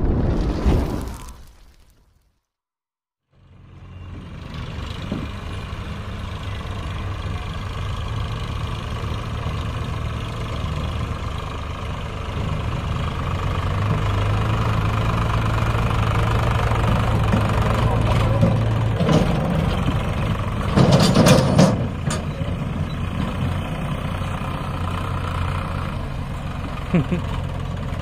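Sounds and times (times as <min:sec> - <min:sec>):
tractor diesel engine idling: 0:03.4 - 0:28.0.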